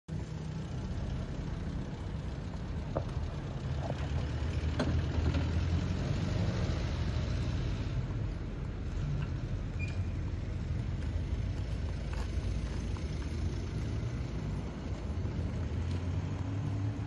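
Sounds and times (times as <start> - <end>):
car engine rumbling: 0.1 - 17.0.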